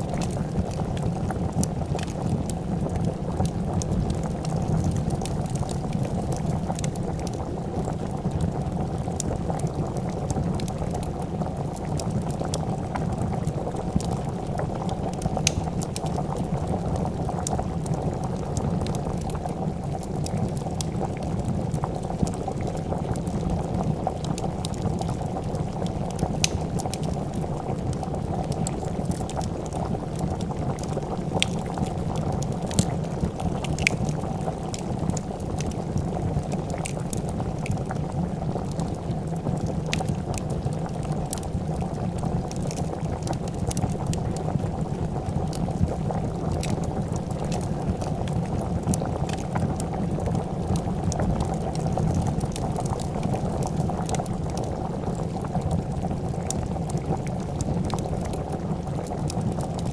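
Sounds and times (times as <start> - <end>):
soup boiling and bubbling: 0.0 - 59.9
wood fire crackling and popping: 0.0 - 59.9.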